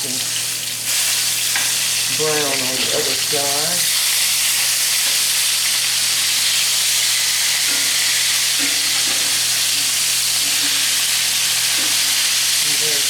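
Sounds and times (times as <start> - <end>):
burgers sizzling in a skillet: 0.0 - 13.0.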